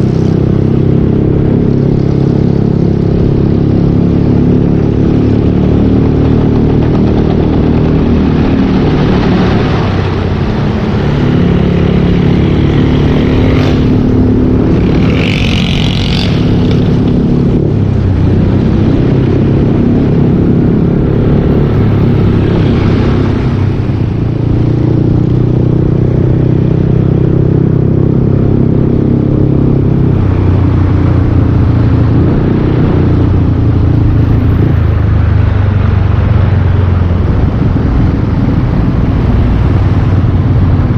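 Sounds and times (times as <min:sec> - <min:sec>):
scooter engine revving: 0:00.0 - 0:34.7.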